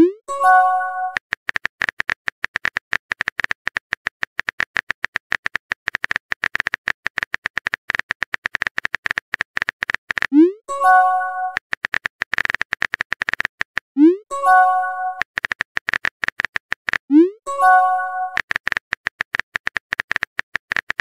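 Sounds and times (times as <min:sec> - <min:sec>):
phone keyboard typing clicks: 0:00.4 - 0:21.0.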